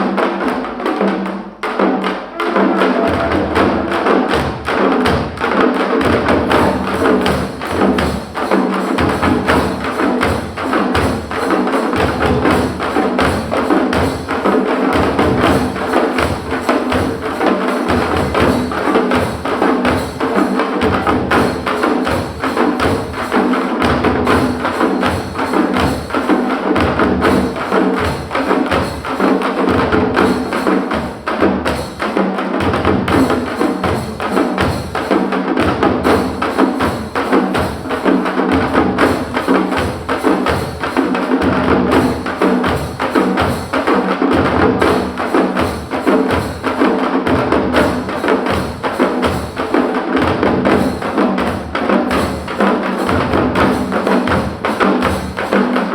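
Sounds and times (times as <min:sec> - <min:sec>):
frame drums played with sticks: 0:00.0 - 0:55.9.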